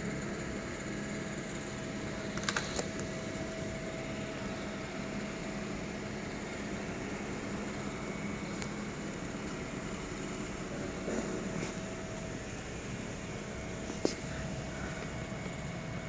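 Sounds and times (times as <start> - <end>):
welding arc hissing and humming: 0.0 - 16.0.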